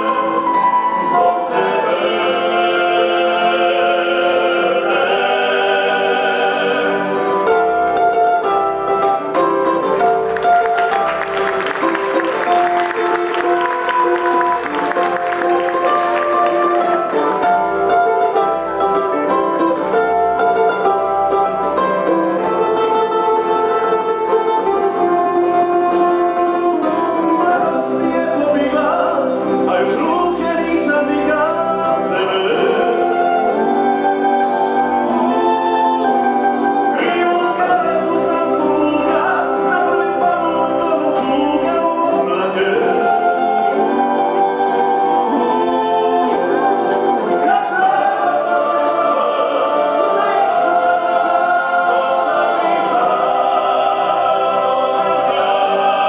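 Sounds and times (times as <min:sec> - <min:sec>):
male choir singing in harmony: 0:00.0 - 0:56.0
mandolin: 0:00.0 - 0:56.0
strummed acoustic guitars: 0:00.0 - 0:56.0.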